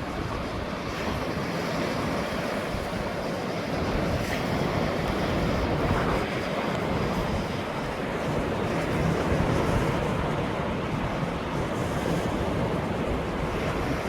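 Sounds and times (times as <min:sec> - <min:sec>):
ocean waves washing on shore: 0:00.0 - 0:14.0
wind on microphone: 0:00.0 - 0:14.0.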